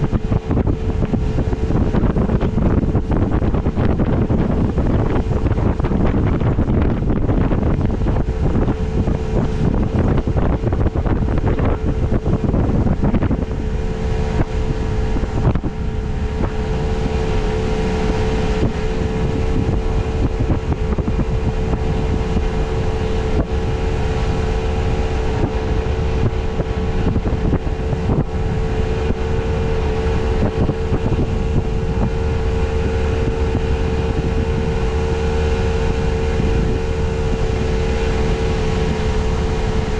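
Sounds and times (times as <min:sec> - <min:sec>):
boat motor humming: 0:00.0 - 0:39.9
wind rushing over microphone: 0:00.0 - 0:39.9.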